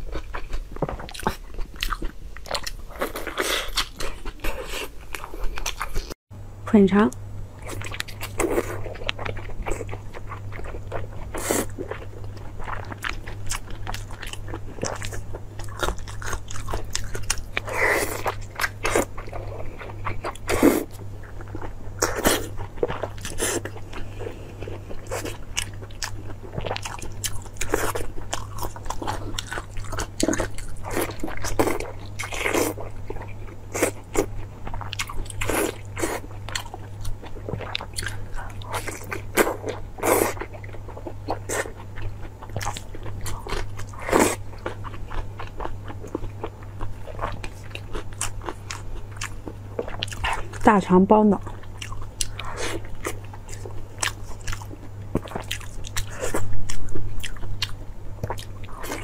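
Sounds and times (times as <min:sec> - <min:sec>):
person chewing food: 0:00.0 - 0:06.2, 0:07.6 - 0:50.6, 0:51.4 - 0:59.0
low steady hum: 0:00.0 - 0:59.0.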